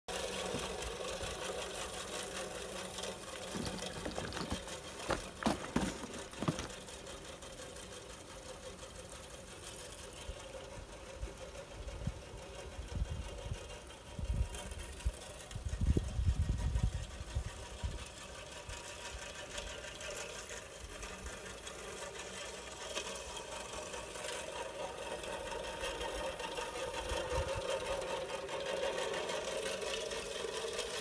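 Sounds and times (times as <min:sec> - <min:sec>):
reel mower whirring: 0:00.1 - 0:31.0.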